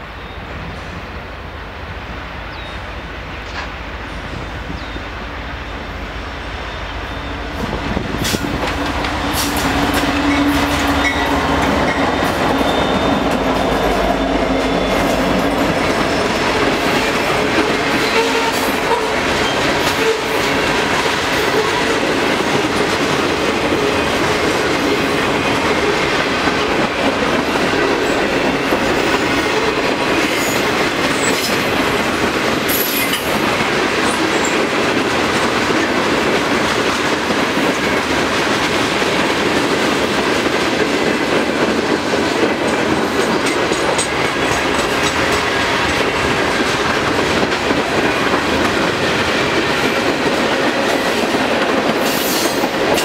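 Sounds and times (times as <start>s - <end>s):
diesel locomotive passing: 0.0s - 53.0s
wheels clacking over rail joints: 7.6s - 53.0s.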